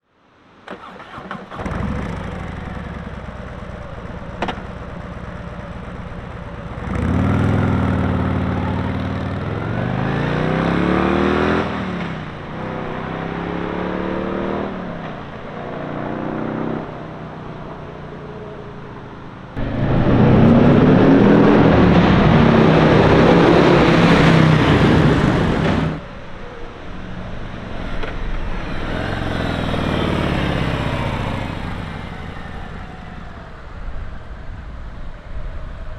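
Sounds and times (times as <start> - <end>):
motorcycle engine idling and revving: 0.7 - 35.9.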